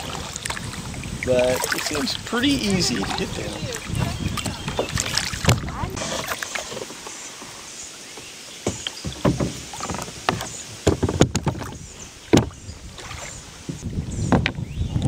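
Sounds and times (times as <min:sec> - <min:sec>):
low wind noise: 0:00.0 - 0:07.9, 0:08.6 - 0:15.0
paddle knocks: 0:00.0 - 0:15.0
paddle splashing water: 0:00.0 - 0:15.0.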